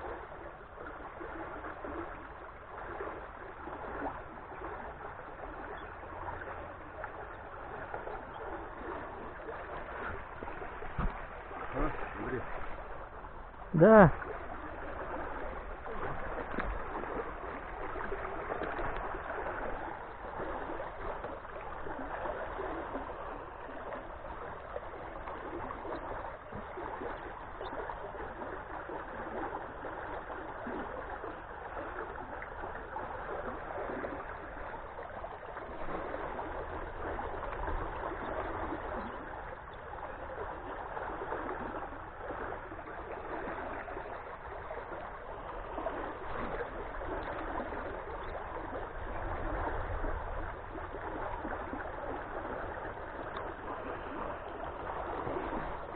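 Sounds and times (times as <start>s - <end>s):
stream water rushing and gurgling: 0.0s - 55.9s.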